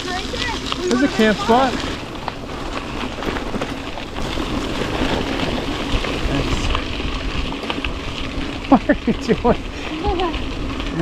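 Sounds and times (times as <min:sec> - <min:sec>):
bike tyres rolling on gravel: 0:00.0 - 0:11.0
wind rumbling on microphone: 0:00.0 - 0:11.0.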